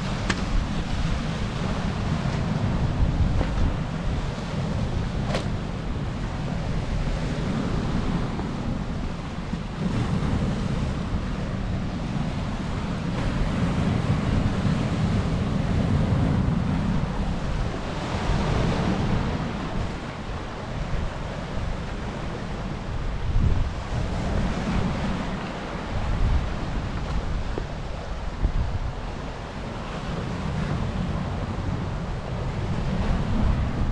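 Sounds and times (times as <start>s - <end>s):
surf breaking on rocky shore: 0.0s - 33.9s
wind buffeting microphone: 0.0s - 33.9s.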